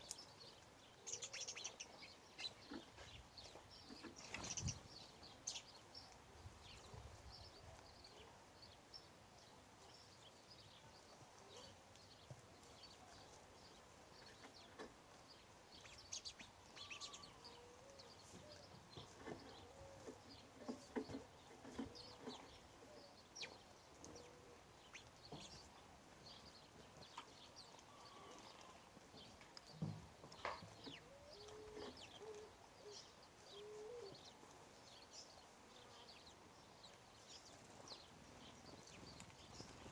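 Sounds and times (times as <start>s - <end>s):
lower rounded bird calls: 0.0s - 39.9s.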